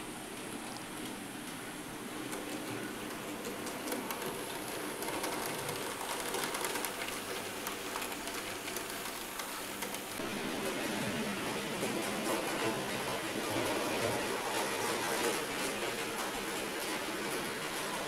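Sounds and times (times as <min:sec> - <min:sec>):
wheels clicking on rail joints: 0:02.2 - 0:18.0.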